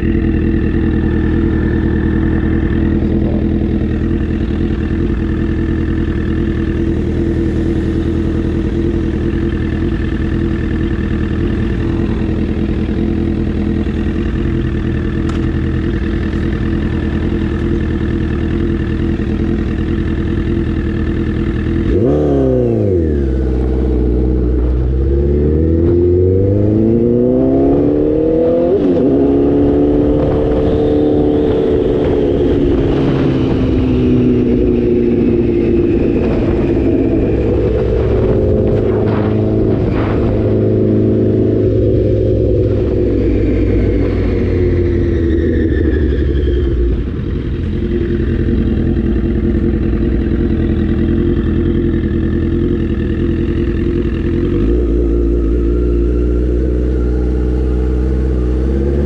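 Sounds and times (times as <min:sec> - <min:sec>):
motorcycle engine idling: 0:00.0 - 0:26.2, 0:29.9 - 0:59.0
motorcycle revving and accelerating: 0:00.0 - 0:59.0.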